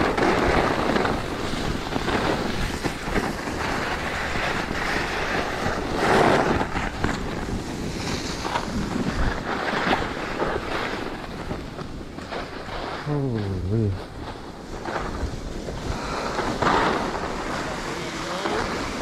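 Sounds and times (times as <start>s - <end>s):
skis scraping across snow: 0.0s - 19.0s
wind rushing over microphone: 0.0s - 19.0s.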